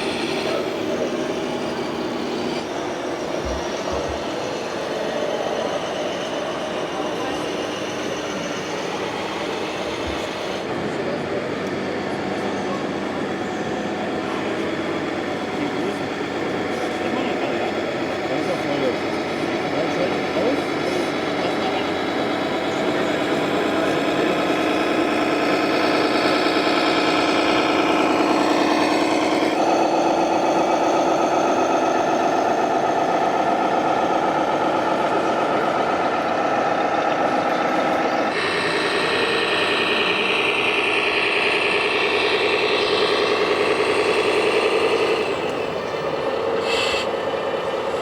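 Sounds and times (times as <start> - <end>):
model truck engine drone: 0.0 - 48.0.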